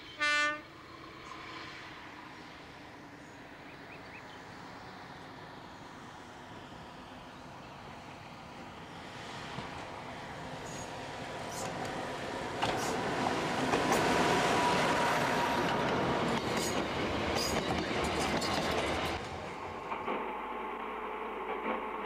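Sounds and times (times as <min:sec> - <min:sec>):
tram rumbling past on rails: 0:00.0 - 0:22.0.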